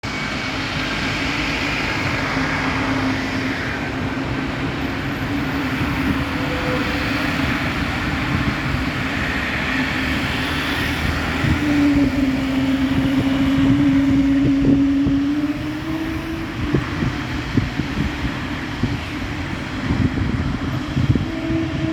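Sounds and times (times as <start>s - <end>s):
airplane engine drone: 0.0s - 21.9s
rushing noise: 0.0s - 21.9s.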